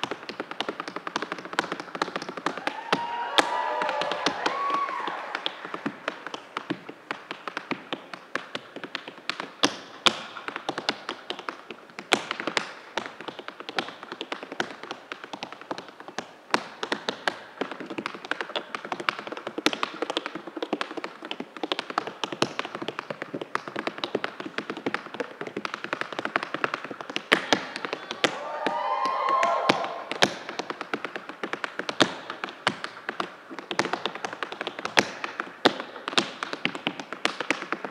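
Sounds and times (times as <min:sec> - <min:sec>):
tap shoes on stage floor: 0:00.0 - 0:37.9.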